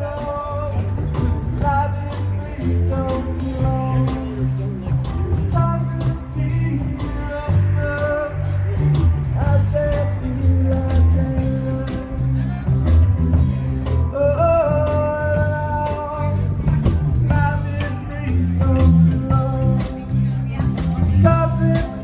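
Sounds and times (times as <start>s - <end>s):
bass line: 0.0s - 22.0s
drum beats: 0.0s - 22.0s
melodic guitar lines: 0.0s - 22.0s.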